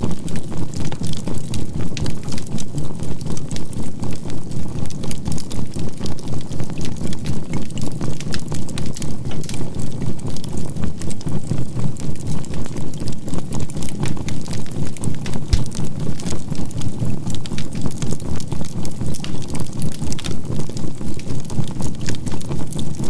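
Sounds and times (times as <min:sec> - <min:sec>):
charcoal fire crackling and popping: 0:00.0 - 0:23.0.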